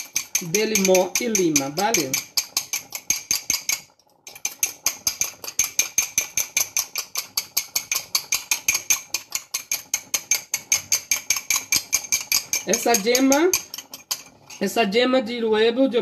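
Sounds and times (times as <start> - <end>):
utensil clicking against glass: 0.0 - 14.6.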